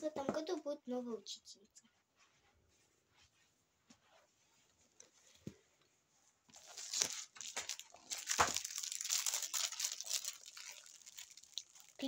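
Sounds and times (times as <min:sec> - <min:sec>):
crinkling and rustling: 0:02.0 - 0:12.0.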